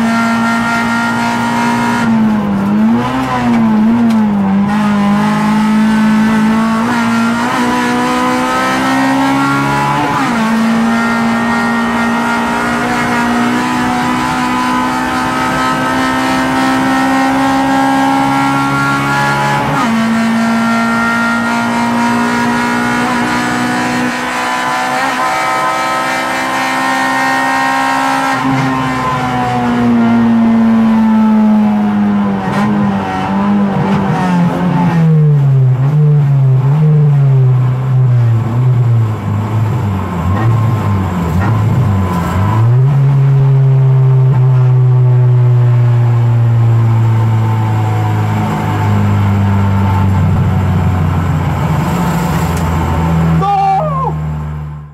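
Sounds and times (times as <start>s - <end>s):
race car engine accelerating: 0.0s - 54.9s.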